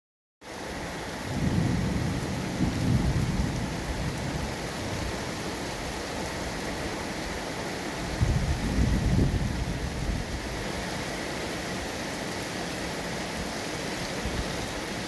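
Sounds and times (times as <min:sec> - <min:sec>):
heavy rain hiss: 0:00.4 - 0:15.0.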